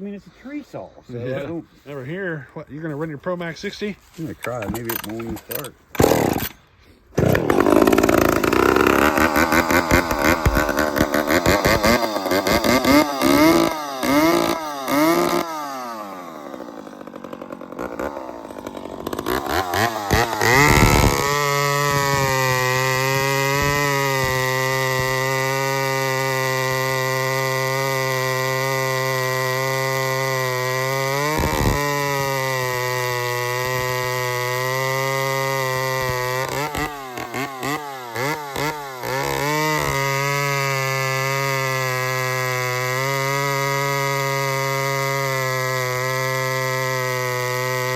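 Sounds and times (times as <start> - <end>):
chainsaw revving: 4.4 - 47.9.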